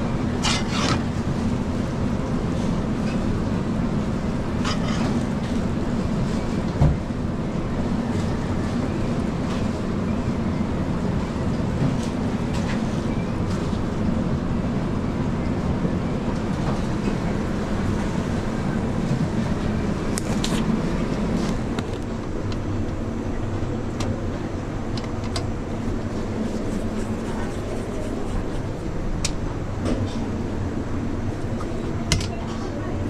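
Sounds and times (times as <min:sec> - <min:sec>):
kitchen ventilation rumble: 0:00.0 - 0:33.0.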